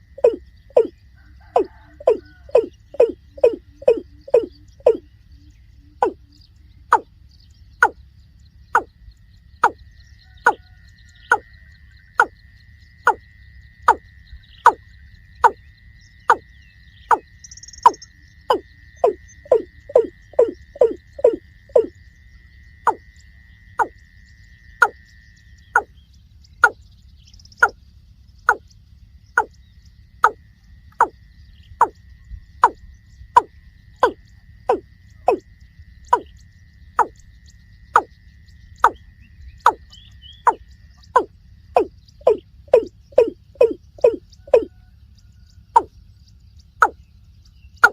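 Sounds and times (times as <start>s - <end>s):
rail bird calling: 0.0s - 9.0s, 9.6s - 12.4s, 13.0s - 22.0s, 22.8s - 23.2s, 23.8s - 47.9s
faint high insect trill: 0.0s - 47.9s.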